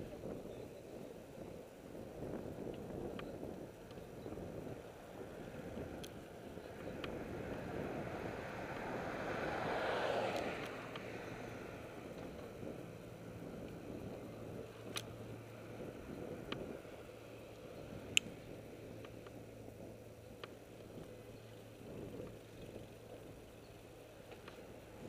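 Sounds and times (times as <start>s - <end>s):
low hum: 0.0s - 25.0s
road and wind rumble: 0.0s - 25.0s.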